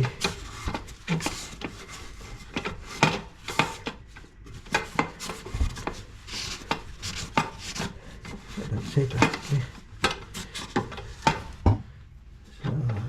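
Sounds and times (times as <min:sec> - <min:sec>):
hard parts clicking and knocking: 0:00.0 - 0:06.0, 0:06.6 - 0:12.0
rubbing and scraping on valve seat: 0:00.0 - 0:13.0.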